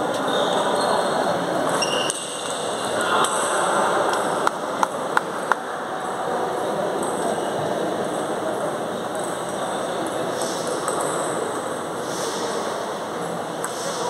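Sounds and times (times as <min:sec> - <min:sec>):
busy hall noise: 0:00.0 - 0:14.0.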